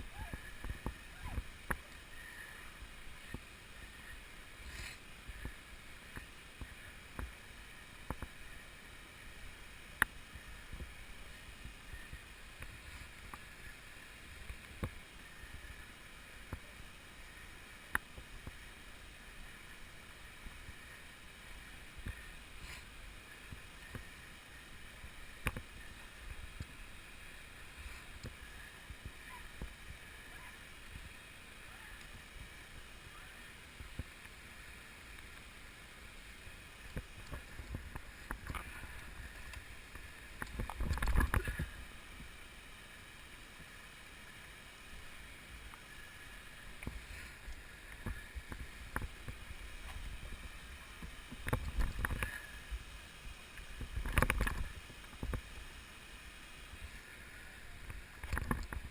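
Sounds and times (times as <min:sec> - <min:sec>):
faint hiss: 0:00.0 - 0:58.9.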